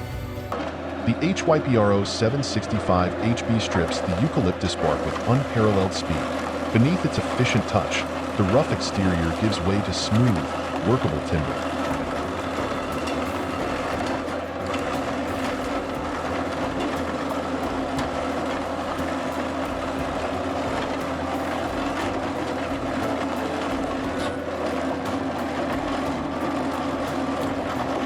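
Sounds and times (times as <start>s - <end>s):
machine humming: 0.0s - 28.0s
rapid clicking and rattling: 3.2s - 28.0s.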